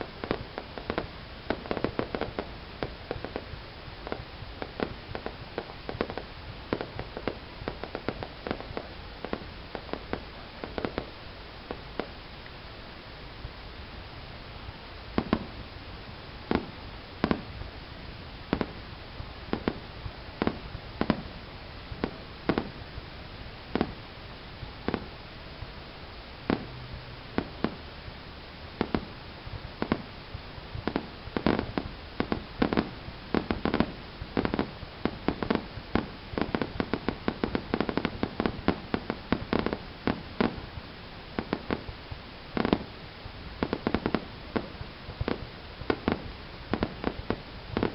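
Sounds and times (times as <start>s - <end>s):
fireworks bangs: 0.0s - 12.2s, 15.1s - 17.8s, 18.4s - 23.1s, 23.7s - 25.7s, 26.4s - 28.0s, 28.8s - 47.9s.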